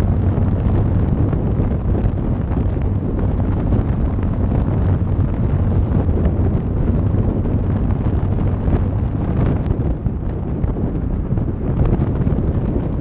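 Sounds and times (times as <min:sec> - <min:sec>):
low car drone on road: 0:00.0 - 0:13.0
wind buffeting microphone: 0:00.0 - 0:13.0.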